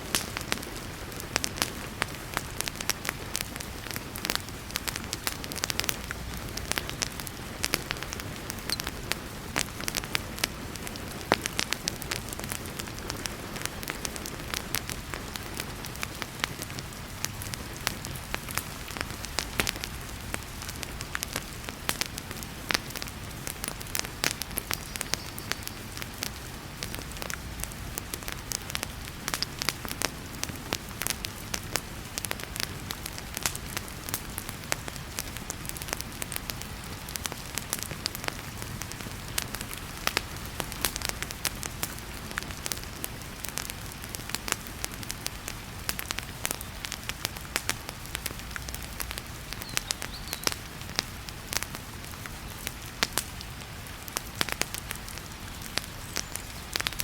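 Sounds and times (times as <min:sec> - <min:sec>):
heavy rain hiss: 0:00.0 - 0:57.0
wood fire crackling and popping: 0:00.0 - 0:57.0.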